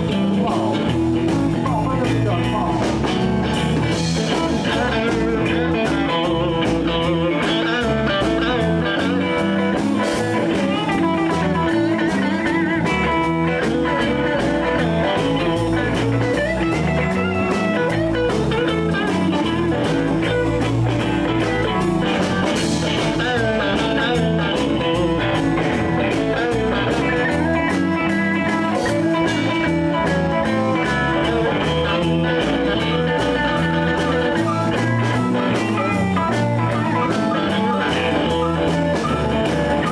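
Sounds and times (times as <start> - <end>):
electric guitar solo: 0.0 - 39.9
live blues band playing: 0.0 - 39.9.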